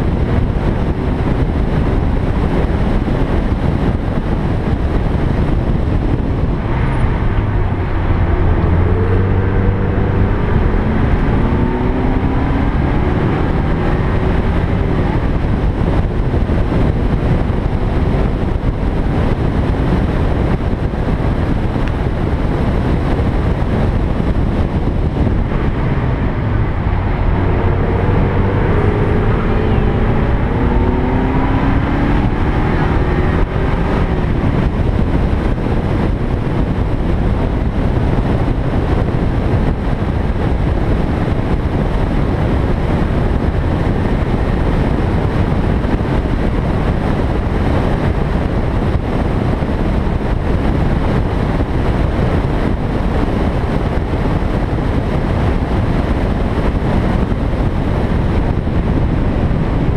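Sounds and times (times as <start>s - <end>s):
car engine accelerating: 0.0s - 59.9s
road noise: 0.0s - 59.9s
wind noise: 0.0s - 59.9s.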